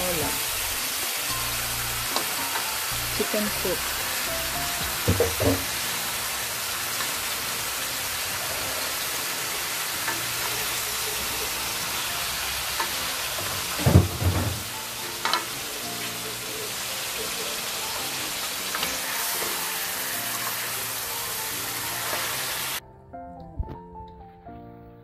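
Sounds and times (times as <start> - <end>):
chicken sizzling in hot oil: 0.0 - 22.8.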